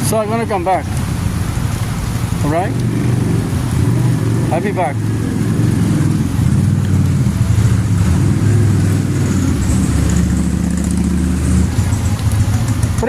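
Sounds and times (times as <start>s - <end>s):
rain on street: 0.0s - 13.0s
vehicle engine droning: 0.0s - 13.0s.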